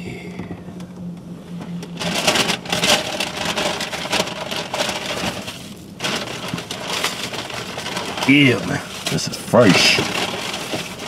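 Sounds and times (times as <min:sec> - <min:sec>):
aluminium foil crinkling: 0:02.0 - 0:11.0.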